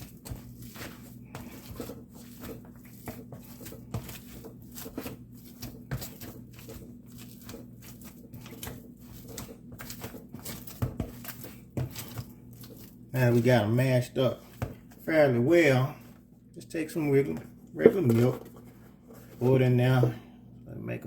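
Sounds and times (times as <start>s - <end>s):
potato masher squishing: 0.0s - 20.1s
steady low hum: 0.0s - 21.0s.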